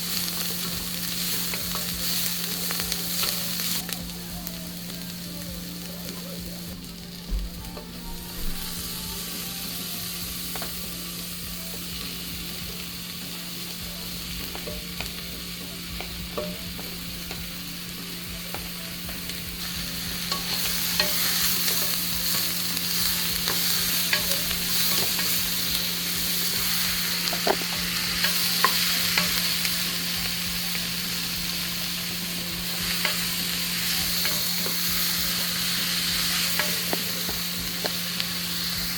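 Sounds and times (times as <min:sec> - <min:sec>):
food sizzling in a pot: 0:00.0 - 0:38.9.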